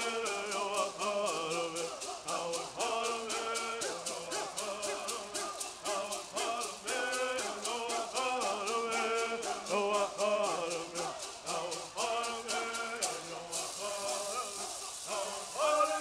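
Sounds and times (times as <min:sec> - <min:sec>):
gourd rattles shaking: 0:00.0 - 0:16.0
men singing in unison: 0:00.0 - 0:16.0.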